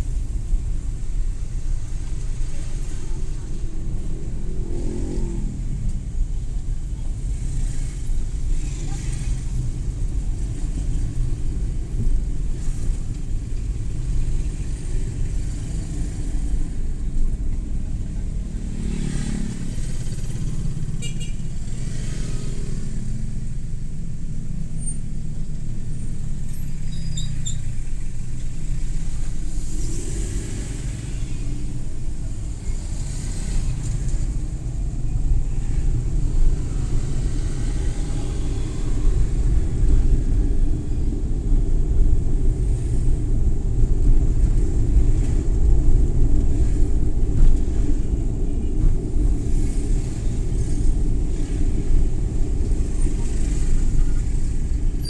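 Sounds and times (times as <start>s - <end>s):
passing traffic: 0.0s - 55.0s
van engine and road rumble: 0.0s - 55.0s.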